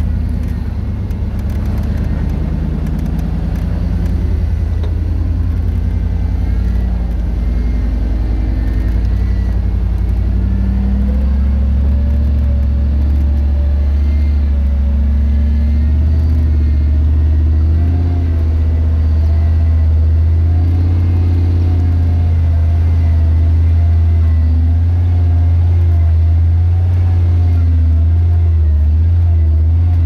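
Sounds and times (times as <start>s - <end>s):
engine rumbling at low revs: 0.0s - 30.0s.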